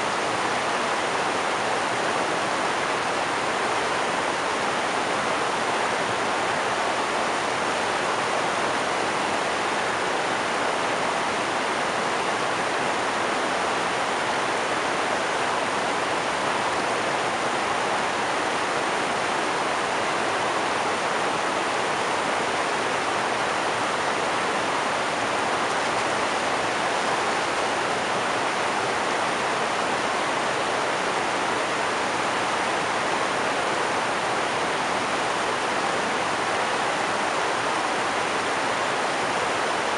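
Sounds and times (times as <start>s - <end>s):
river rapids rushing over boulders: 0.0s - 39.9s.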